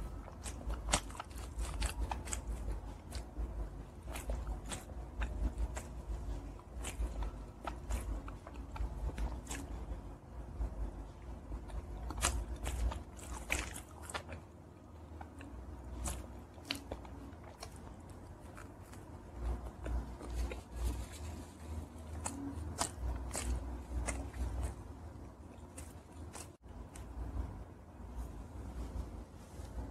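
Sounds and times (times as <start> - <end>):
chewing clicks: 0.0 - 10.1, 11.5 - 27.4
person chewing chicken wings: 0.0 - 27.4.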